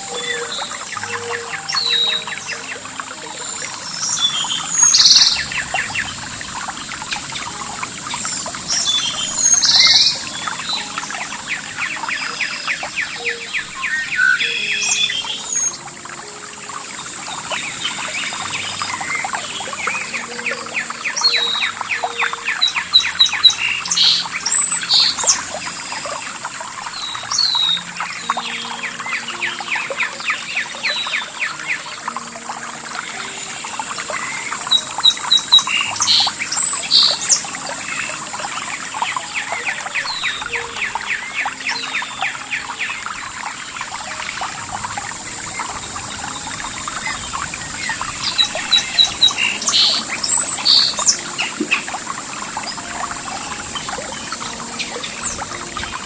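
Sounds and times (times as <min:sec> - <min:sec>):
birds chirping and calling: 0:00.0 - 0:56.0
steady high hiss: 0:00.0 - 0:56.0
trickling pouring water: 0:00.0 - 0:56.0.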